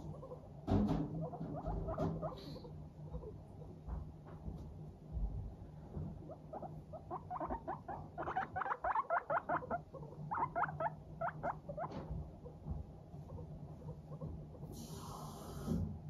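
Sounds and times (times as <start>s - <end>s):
guinea pig chutting: 0.0s - 16.0s.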